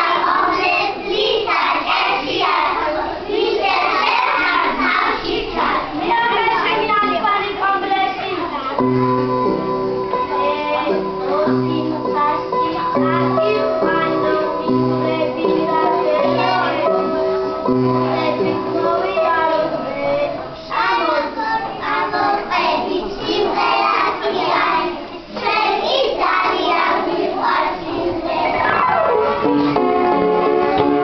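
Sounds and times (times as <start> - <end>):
children singing together: 0.0 - 6.8, 10.1 - 31.0.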